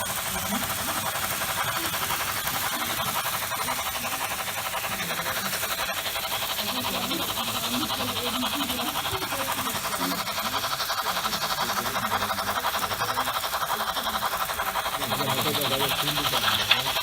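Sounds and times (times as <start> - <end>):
faint voices: 0.0 - 17.0
model train whirring rattle: 0.0 - 17.0.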